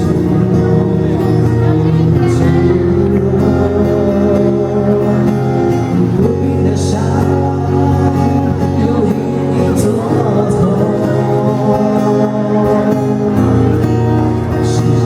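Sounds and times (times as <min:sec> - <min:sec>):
live band playing: 0:00.0 - 0:15.0
man singing a ballad: 0:00.0 - 0:15.0.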